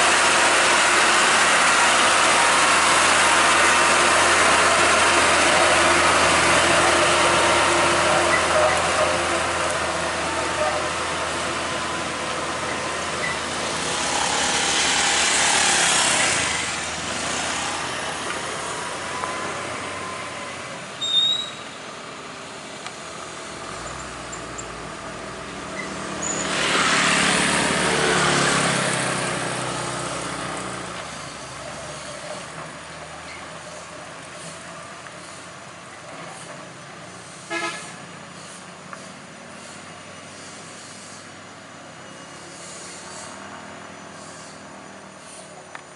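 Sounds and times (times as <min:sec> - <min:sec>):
vehicles passing: 0:00.0 - 0:45.9.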